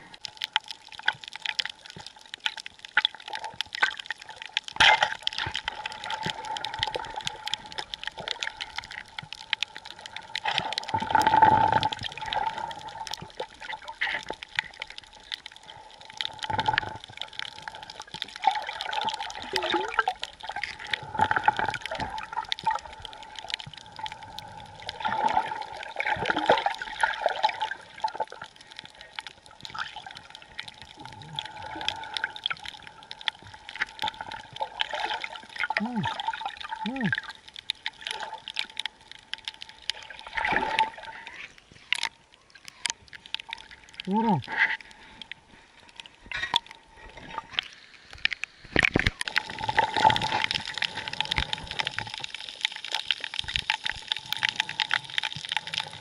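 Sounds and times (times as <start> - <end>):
fine crackle of small clicks: 0.0 - 56.0
water rushing underwater: 0.0 - 56.0.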